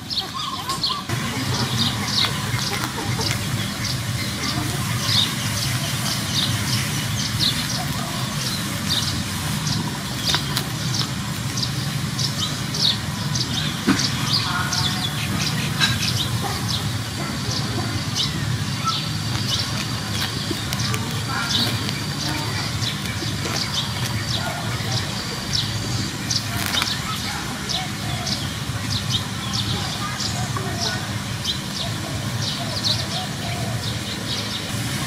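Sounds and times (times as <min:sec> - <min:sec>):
small birds chirping: 0:00.0 - 0:34.8.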